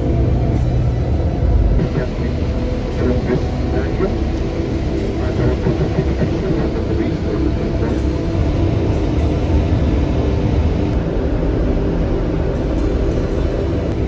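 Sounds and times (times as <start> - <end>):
coach engine and road rumble: 0.0 - 14.0.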